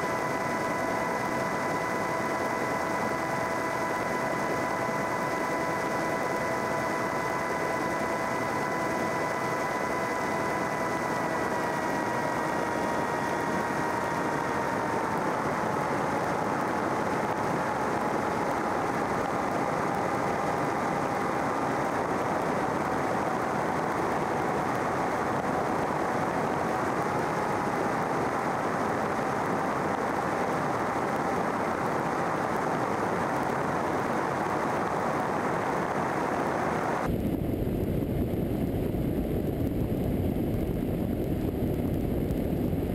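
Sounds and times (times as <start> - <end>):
rush of air noise: 0.0 - 42.9
ultralight aircraft engine droning: 0.0 - 42.9.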